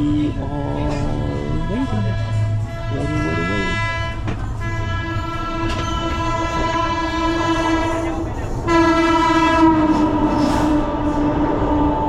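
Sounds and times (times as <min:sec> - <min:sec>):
locomotive horn: 0:00.0 - 0:12.0.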